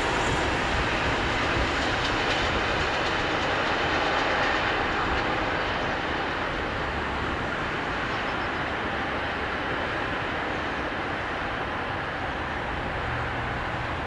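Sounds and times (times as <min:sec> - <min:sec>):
freight train wheels rolling on rails: 0:00.0 - 0:14.0.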